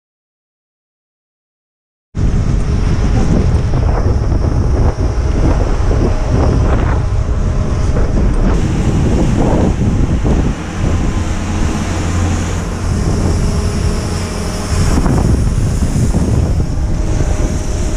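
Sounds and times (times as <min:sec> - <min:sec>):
wind buffeting microphone: 0:02.2 - 0:17.9.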